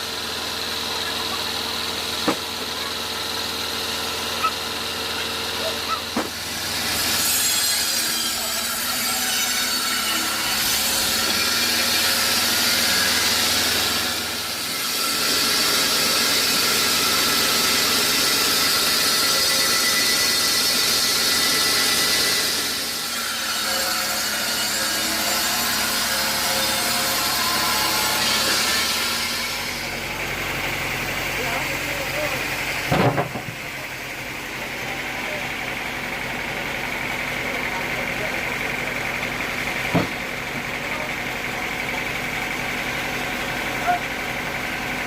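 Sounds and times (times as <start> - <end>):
saw blade cutting log: 0.0 - 45.0.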